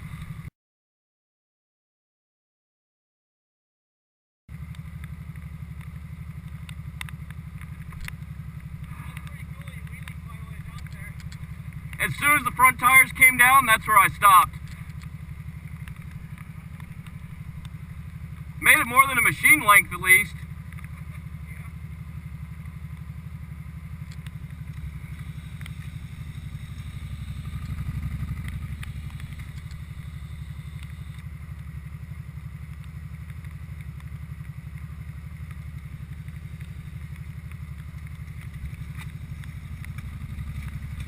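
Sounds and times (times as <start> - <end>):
atv engine idling: 0.0 - 0.5, 4.5 - 41.0.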